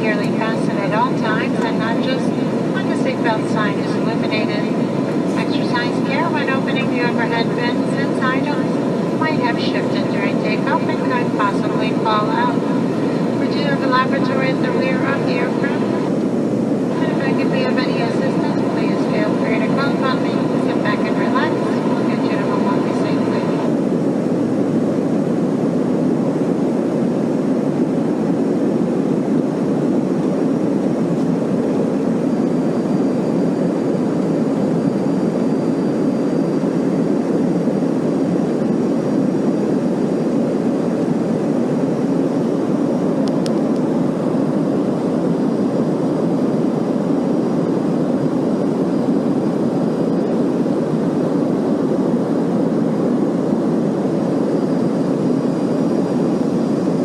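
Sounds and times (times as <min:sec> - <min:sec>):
faint high whine: 0:00.0 - 0:57.0
jet engines and airflow rushing: 0:00.0 - 0:57.0.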